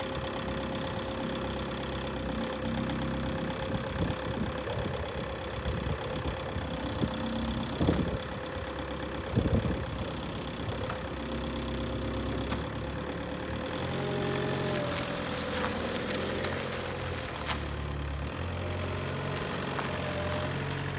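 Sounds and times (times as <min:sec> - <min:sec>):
forklift diesel engine idling: 0:00.0 - 0:20.9.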